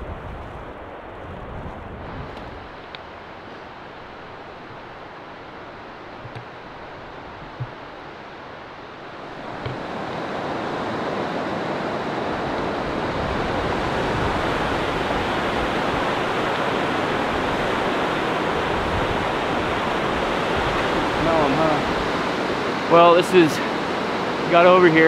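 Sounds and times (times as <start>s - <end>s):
river rushing over rapids: 2.3s - 25.0s.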